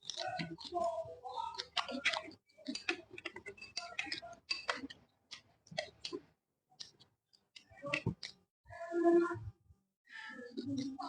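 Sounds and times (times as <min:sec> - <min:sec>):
wet chewing clicks and smacks: 0:00.0 - 0:08.5, 0:10.5 - 0:11.0.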